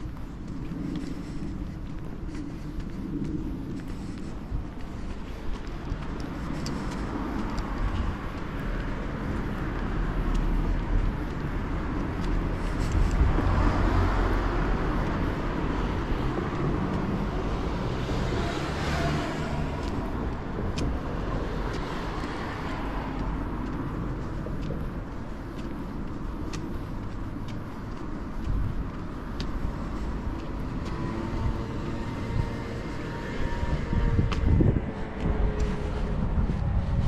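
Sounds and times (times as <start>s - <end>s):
traffic hum: 0.0s - 37.0s
vehicle passing: 0.0s - 37.0s.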